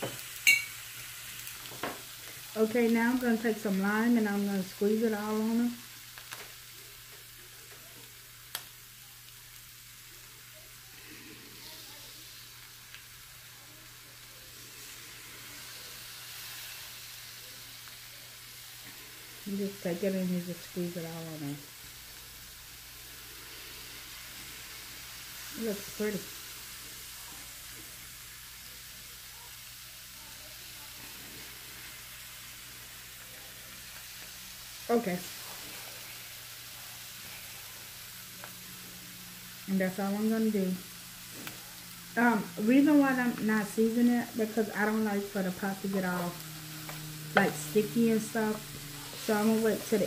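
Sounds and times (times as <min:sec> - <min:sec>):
fish fillets sizzling in skillet: 0:00.0 - 0:50.0.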